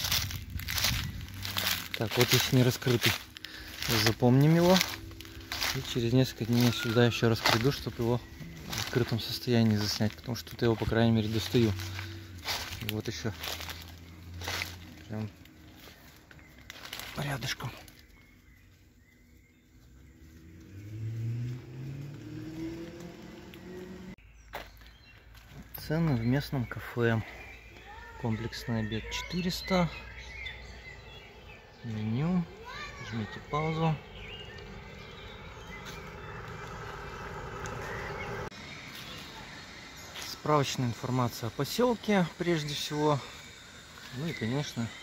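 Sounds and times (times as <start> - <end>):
outdoor background: 0.0 - 45.0
vehicle engine hum: 0.0 - 45.0.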